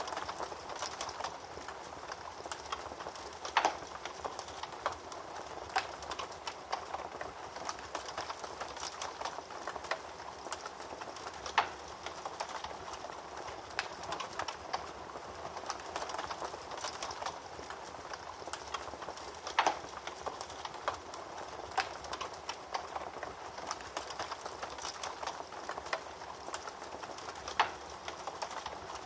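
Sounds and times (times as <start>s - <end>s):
fire pops: 0.0s - 29.0s
wood fire crackling and hissing: 0.0s - 29.0s.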